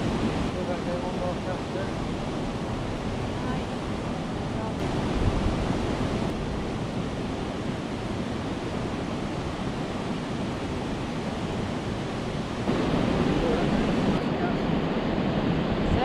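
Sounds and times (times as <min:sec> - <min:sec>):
water rushing over a weir: 0:00.0 - 0:16.0.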